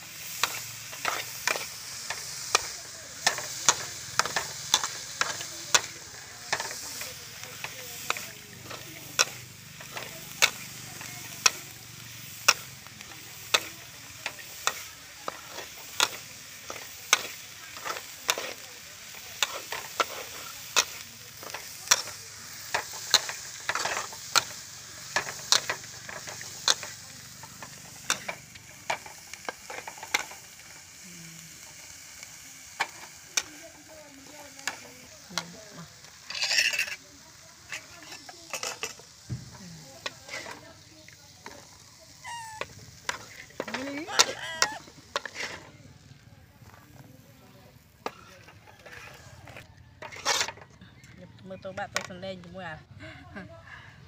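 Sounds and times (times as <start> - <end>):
food sizzling: 0.0 - 50.8, 51.4 - 53.0
metal spatula scraping a wok: 0.2 - 30.7, 34.6 - 39.2, 40.0 - 45.7, 48.0 - 50.6.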